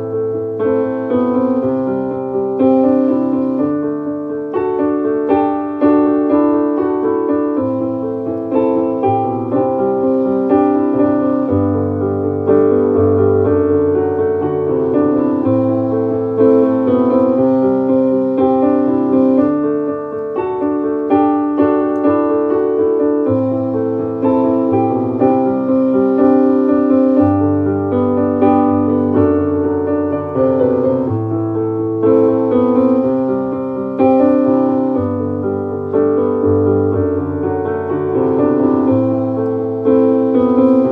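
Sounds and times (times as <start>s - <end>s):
piano chords over bass notes: 0.0s - 40.9s.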